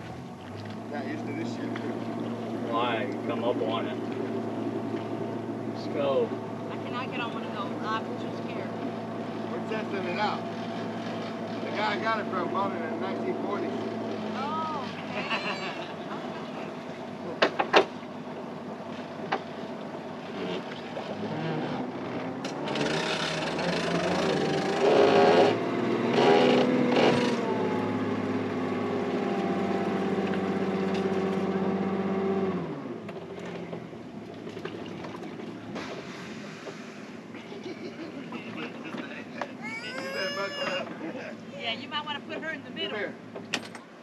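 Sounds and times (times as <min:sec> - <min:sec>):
outboard motor running near idle: 0:00.0 - 0:41.5.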